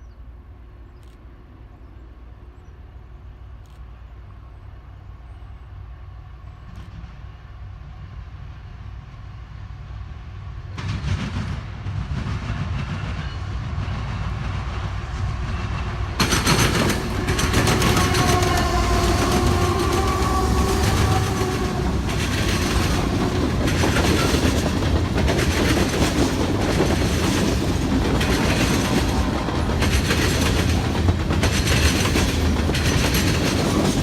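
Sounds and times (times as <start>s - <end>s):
diesel locomotive engine rumble: 0.0s - 34.0s
train wheel and rail noise: 0.0s - 34.0s.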